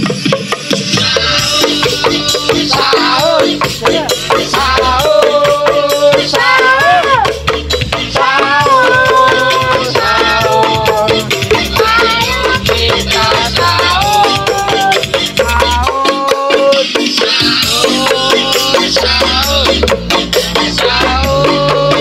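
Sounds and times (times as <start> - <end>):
upbeat song over sound system: 0.0 - 22.0.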